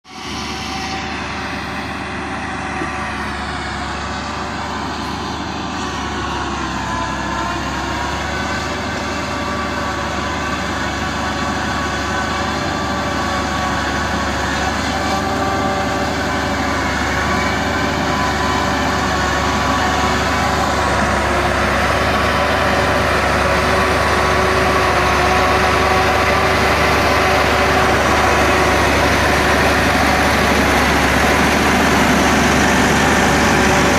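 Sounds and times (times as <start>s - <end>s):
machinery engine drone with whine: 0.0s - 33.9s.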